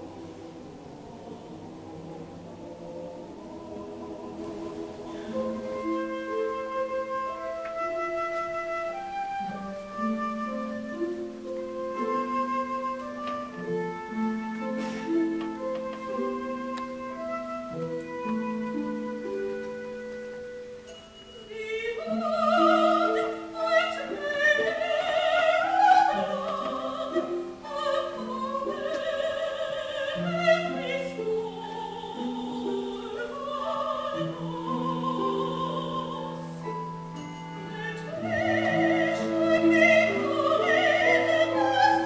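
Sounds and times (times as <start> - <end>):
orchestra sustained chords: 0.0 - 42.0
soprano singing with vibrato: 0.0 - 42.0.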